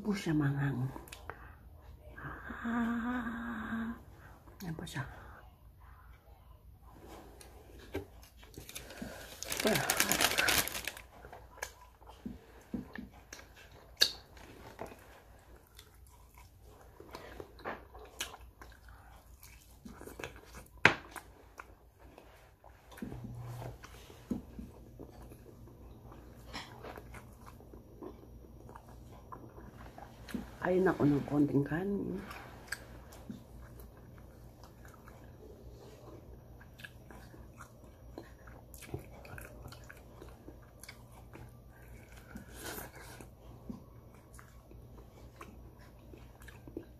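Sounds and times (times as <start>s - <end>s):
steady low hum: 0.0s - 46.9s
person chewing fried chicken: 7.2s - 30.4s, 32.4s - 46.9s.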